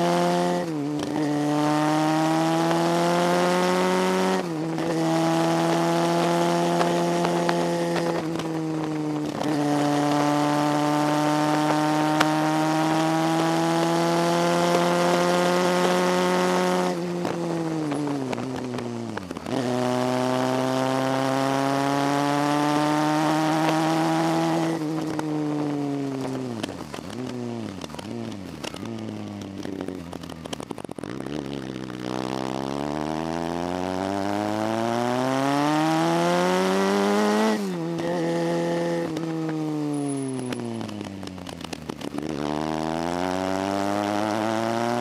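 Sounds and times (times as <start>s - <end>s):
motorcycle engine pulling uphill: 0.0s - 45.0s.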